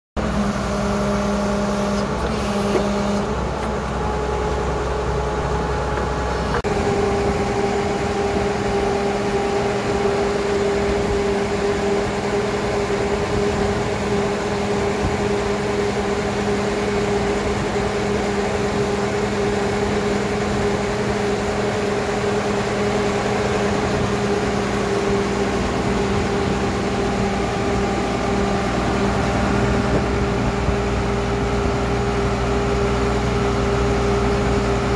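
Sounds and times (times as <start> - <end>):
engine and hydraulic drone: 0.2 - 34.9.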